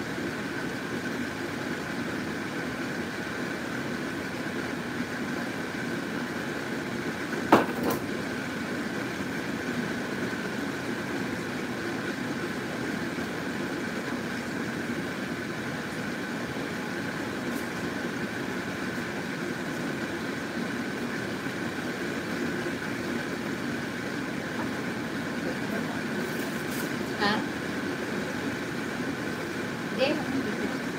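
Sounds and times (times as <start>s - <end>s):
steady motor hum: 0.0s - 30.9s.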